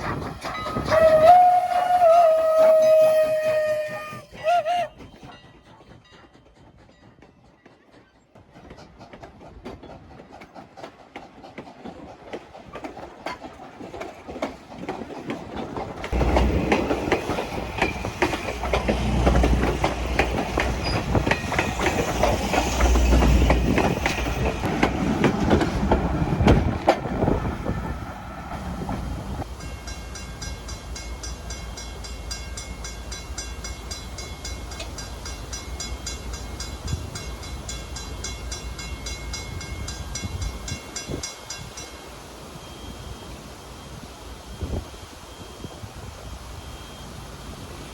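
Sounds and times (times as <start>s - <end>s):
train wheels clicking over rail joints: 0.0s - 42.1s
heavy rumble of steam locomotive: 0.0s - 47.9s.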